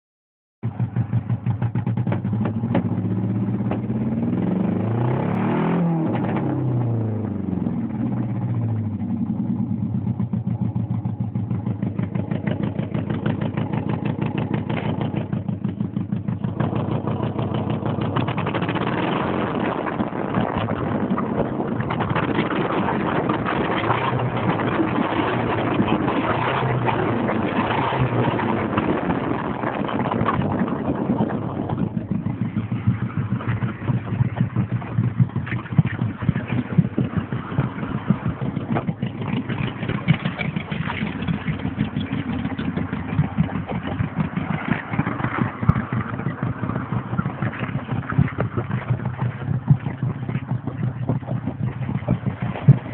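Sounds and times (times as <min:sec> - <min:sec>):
car engine idling unevenly: 0:00.6 - 0:04.4, 0:06.3 - 0:52.9.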